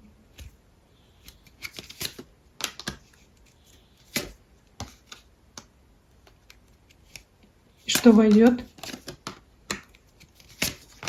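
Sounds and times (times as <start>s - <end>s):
cards clicking and rustling: 1.2s - 11.0s.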